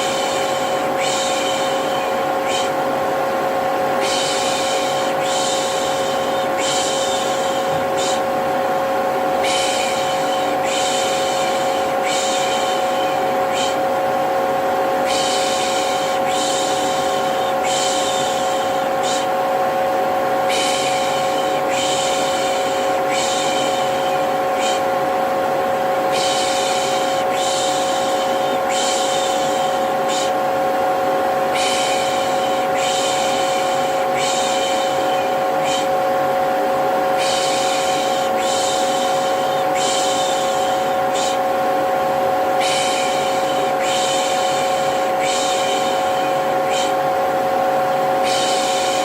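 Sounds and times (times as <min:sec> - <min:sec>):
vacuum cleaner running: 0:00.0 - 0:49.0.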